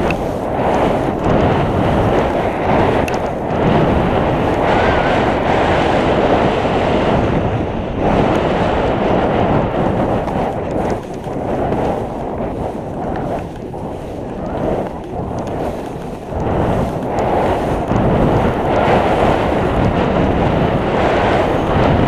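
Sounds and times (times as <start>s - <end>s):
skis scraping over snow: 0.0s - 22.0s
wind rushing over microphone: 0.0s - 22.0s.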